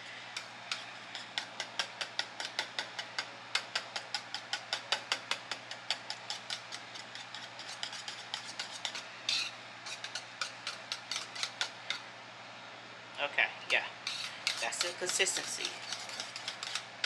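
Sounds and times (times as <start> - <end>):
whisk scraping bowl: 0.0 - 12.0, 14.0 - 17.0
whisk clicking against bowl: 0.4 - 12.0, 14.1 - 17.0.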